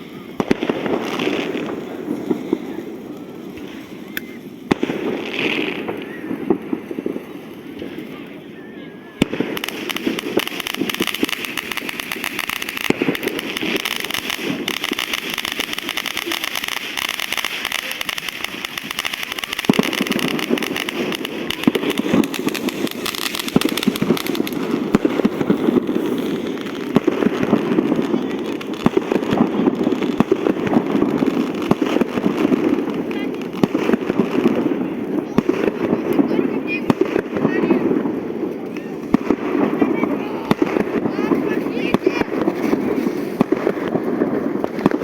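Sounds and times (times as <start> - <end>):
sharp firework bangs: 0.0 - 8.2, 9.2 - 45.0
fireworks crackling: 0.0 - 45.0.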